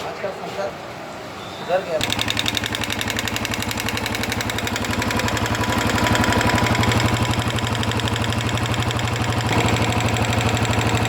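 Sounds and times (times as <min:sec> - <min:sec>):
motorcycle engine idling: 0:02.0 - 0:11.0.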